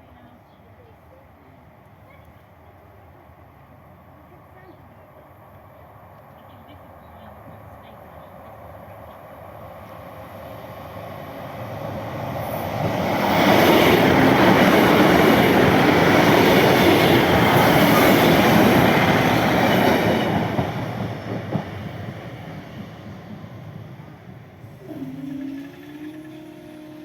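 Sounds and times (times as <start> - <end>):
train passing: 0.0 - 27.0.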